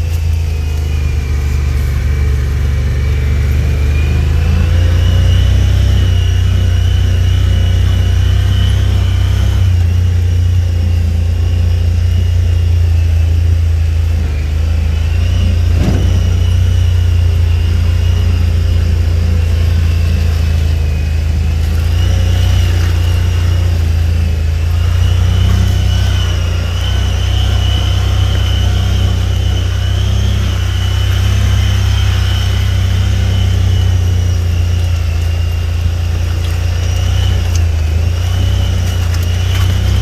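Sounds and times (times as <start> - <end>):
drivetrain high whine: 0.0 - 40.0
vehicle engine low hum: 0.0 - 40.0.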